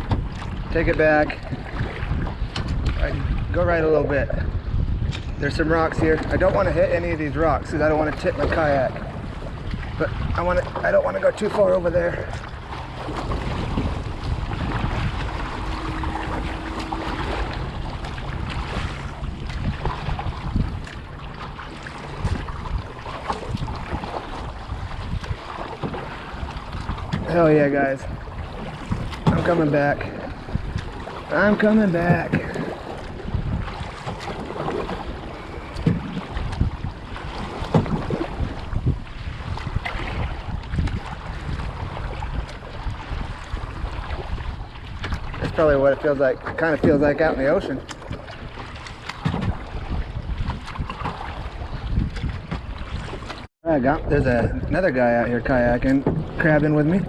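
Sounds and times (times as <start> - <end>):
water slapping against kayak hull: 0.0 - 57.0
wind buffeting microphone: 0.0 - 57.0.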